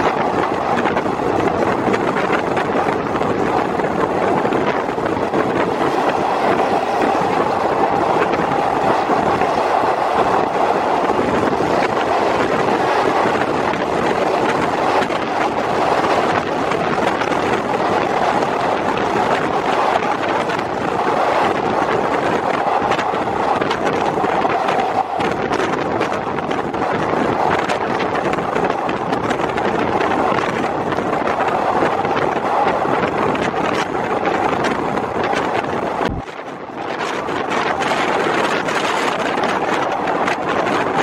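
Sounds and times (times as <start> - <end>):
train wheels on rails: 0.0 - 41.0
wind buffeting microphone: 0.0 - 41.0.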